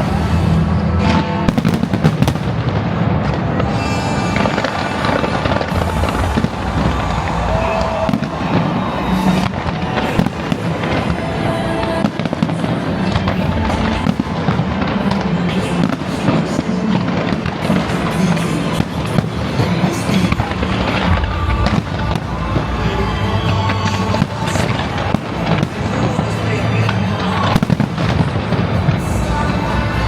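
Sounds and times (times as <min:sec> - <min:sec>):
fireworks bangs and crackles: 0:00.0 - 0:30.0
music: 0:00.0 - 0:30.0.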